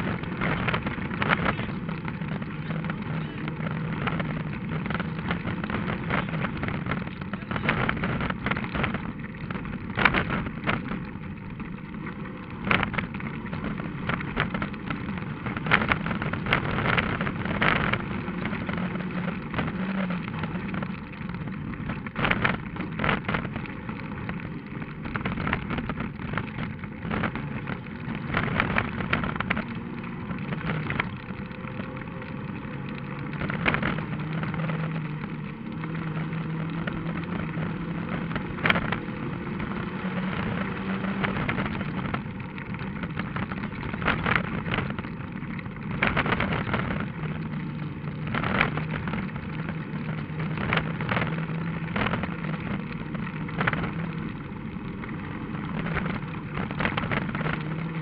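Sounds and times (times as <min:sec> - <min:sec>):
rally car engine running hard: 0:00.0 - 0:58.0.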